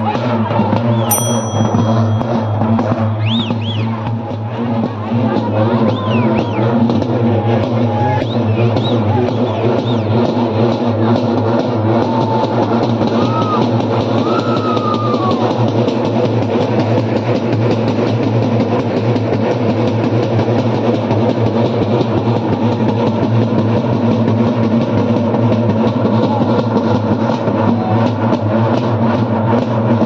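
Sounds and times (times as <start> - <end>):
crowd noise: 0.0 - 30.0
fast loud drumming: 0.0 - 30.0.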